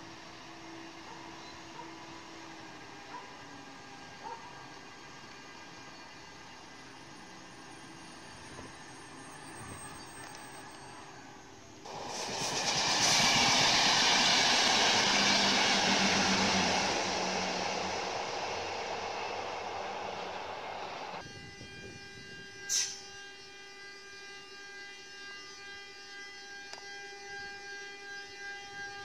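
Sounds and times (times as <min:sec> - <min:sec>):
train wheel and rail noise: 0:00.0 - 0:23.4
electric locomotive hum: 0:00.0 - 0:29.0.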